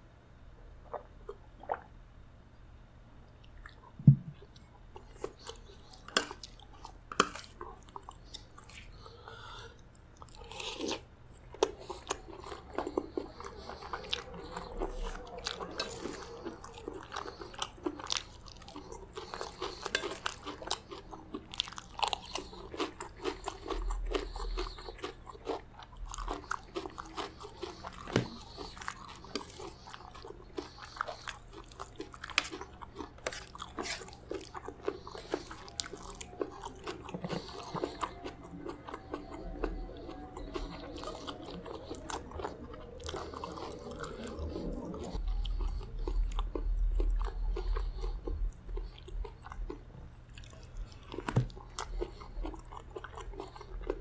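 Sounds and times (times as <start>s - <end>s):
chewing and crunching: 3.3s - 54.0s.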